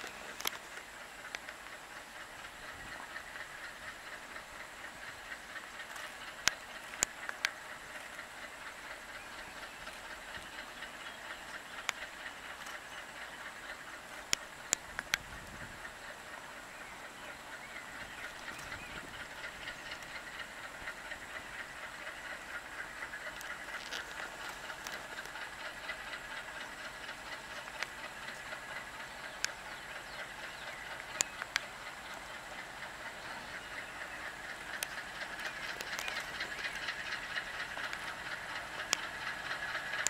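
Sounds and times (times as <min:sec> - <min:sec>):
faint clicks: 0:00.0 - 0:16.1, 0:17.4 - 0:40.0
passenger train running on track: 0:00.0 - 0:40.0.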